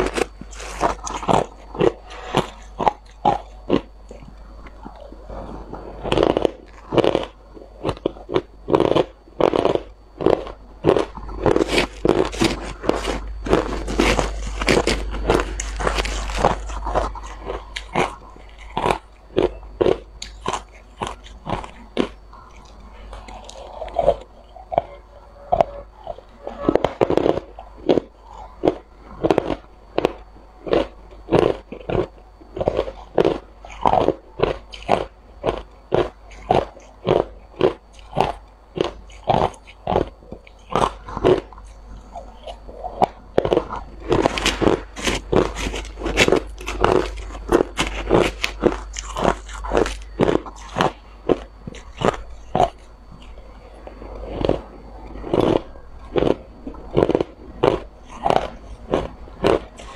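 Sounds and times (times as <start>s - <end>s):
ice crunching while chewed: 0.0s - 59.9s.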